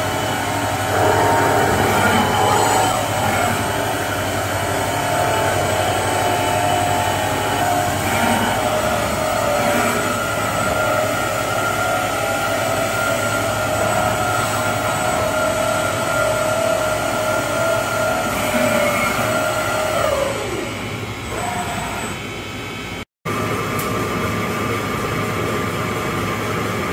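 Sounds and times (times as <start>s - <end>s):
grinding machine whining: 0.0s - 23.0s
steady hum with faint whistle: 0.0s - 23.0s.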